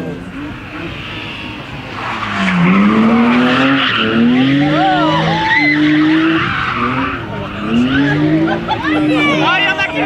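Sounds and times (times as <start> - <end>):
rally car engine accelerating: 0.0 - 10.0
tyres squealing: 0.3 - 10.0.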